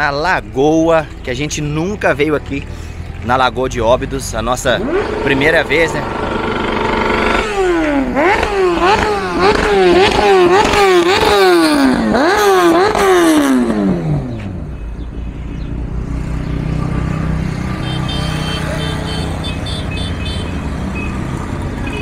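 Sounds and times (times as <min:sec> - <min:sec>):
traffic rumble: 0:00.0 - 0:22.0
motorcycle engine revving: 0:03.9 - 0:22.0.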